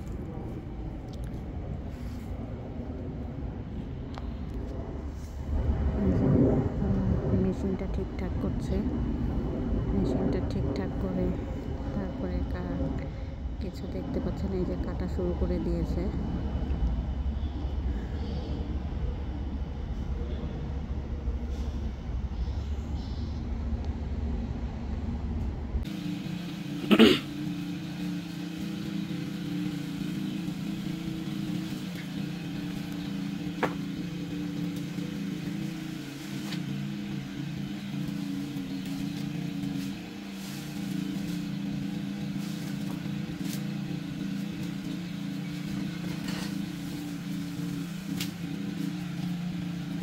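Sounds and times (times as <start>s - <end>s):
tree-cutting engine running: 0.0s - 50.0s.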